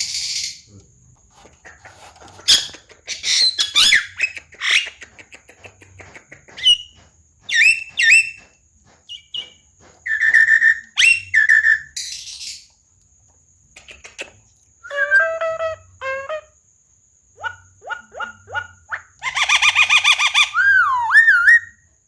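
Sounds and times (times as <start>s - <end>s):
bird chattering and whistling: 1.4s - 8.5s, 9.1s - 12.6s, 13.8s - 16.4s, 17.4s - 21.8s.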